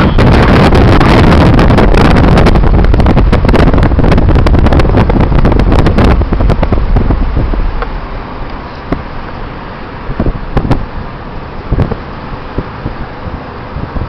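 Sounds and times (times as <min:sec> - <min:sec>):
moving car rumble: 0:00.0 - 0:14.0
wind buffeting microphone: 0:00.0 - 0:14.0.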